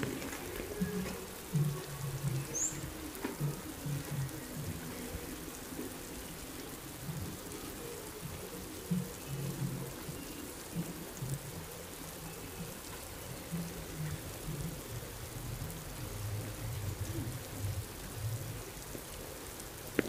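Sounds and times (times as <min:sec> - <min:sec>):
low dull thumps: 0:00.0 - 0:19.1
rain on road and leaves: 0:00.0 - 0:20.0.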